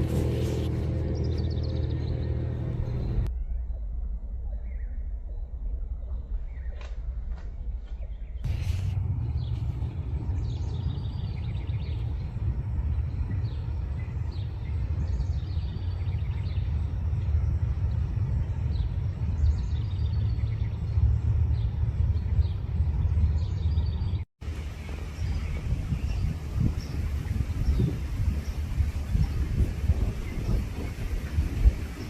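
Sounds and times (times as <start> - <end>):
low rumble: 0.0 - 32.0
small birds trilling: 0.1 - 3.6, 8.0 - 32.0.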